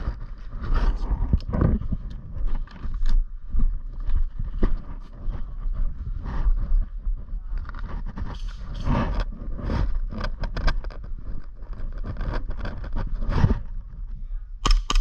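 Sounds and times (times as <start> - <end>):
low microphone rumble: 0.0 - 14.6.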